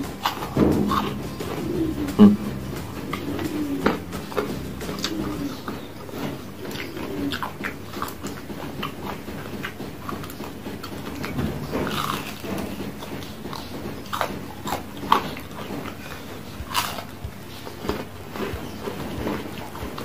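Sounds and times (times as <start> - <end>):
chewing crunchy fried food: 0.0 - 20.0.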